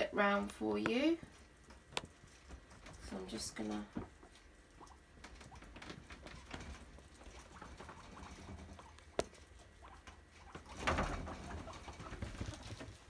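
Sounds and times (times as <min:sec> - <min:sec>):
guinea pigs rustling: 0:00.0 - 0:13.0.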